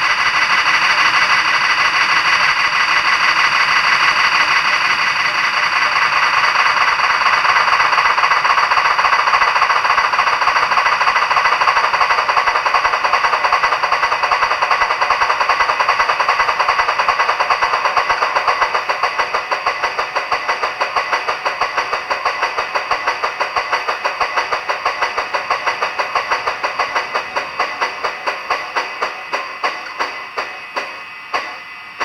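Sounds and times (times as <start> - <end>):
model train exhaust chuffs: 0.0 - 32.0.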